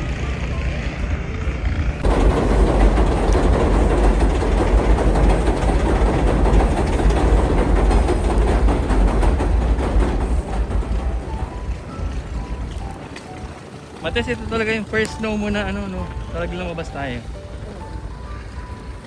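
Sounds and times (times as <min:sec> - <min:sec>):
passing train rumble: 0:00.0 - 0:19.0.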